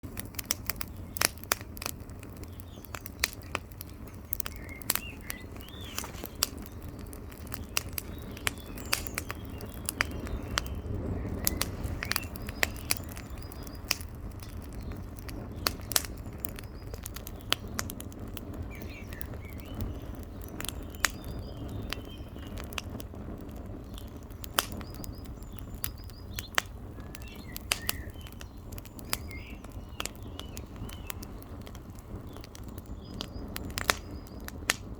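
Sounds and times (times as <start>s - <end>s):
campfire crackling and popping: 0.0s - 34.9s
faint birds chirping: 0.0s - 34.9s.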